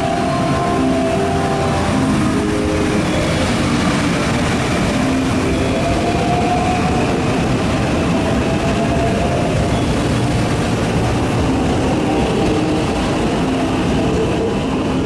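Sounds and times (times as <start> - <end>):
electric train rushing rumble: 0.0 - 15.0.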